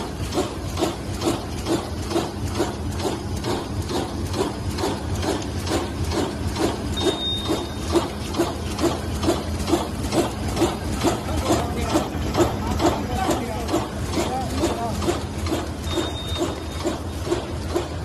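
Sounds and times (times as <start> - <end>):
bag making machine running: 0.0 - 18.0.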